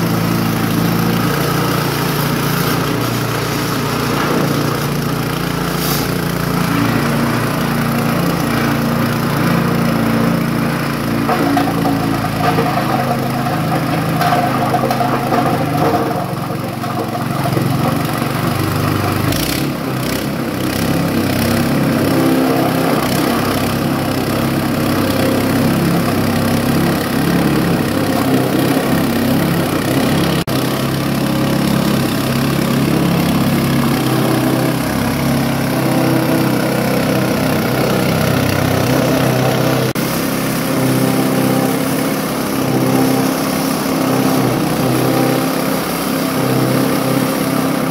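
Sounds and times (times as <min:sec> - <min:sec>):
chopping machine running: 0:00.0 - 0:47.9.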